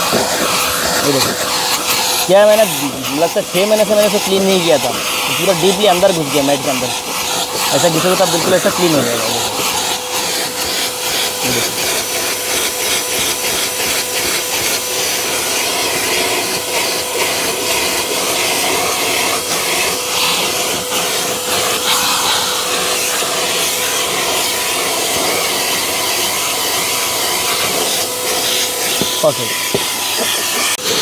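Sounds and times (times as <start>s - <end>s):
nozzle rubbing on carpet: 0.0s - 31.0s
vacuum cleaner running: 0.0s - 31.0s.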